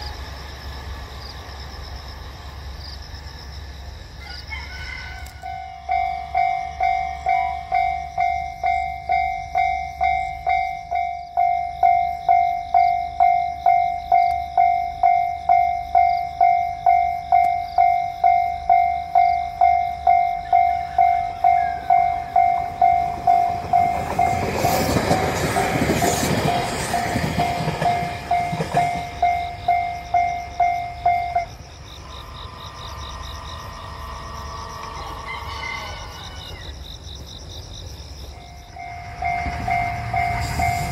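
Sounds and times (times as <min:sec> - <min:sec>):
train rushing and clattering: 0:00.0 - 0:40.9
crossing warning bell dinging: 0:05.1 - 0:36.7, 0:38.2 - 0:40.9.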